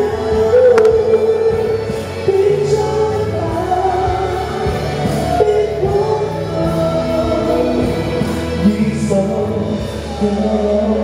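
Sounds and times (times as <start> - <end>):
backing music: 0.0 - 11.0
man singing into microphone: 0.0 - 11.0.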